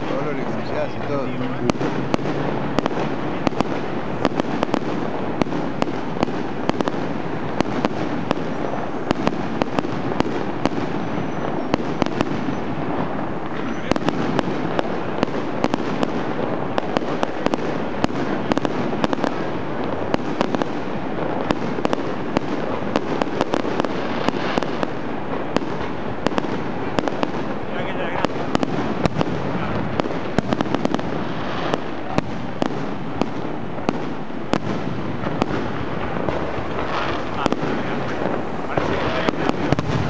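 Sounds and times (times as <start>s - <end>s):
fireworks crackling and banging: 0.0s - 40.0s.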